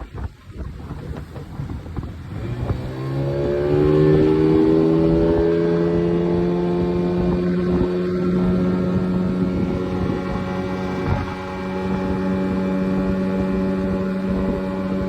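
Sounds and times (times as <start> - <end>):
engine running: 1.2 - 15.0.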